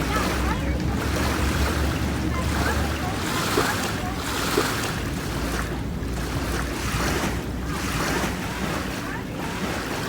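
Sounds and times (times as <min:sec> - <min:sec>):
lake waves washing in: 0:00.0 - 0:10.0.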